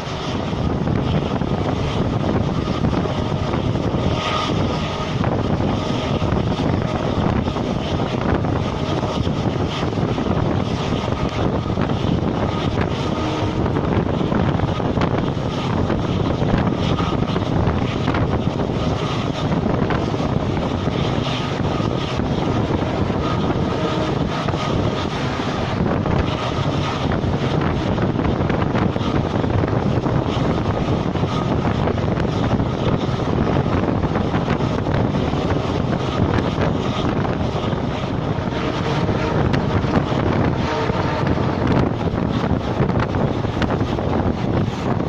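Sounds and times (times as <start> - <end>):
train rushing rumble: 0.0 - 45.0
wind buffeting microphone: 0.0 - 45.0.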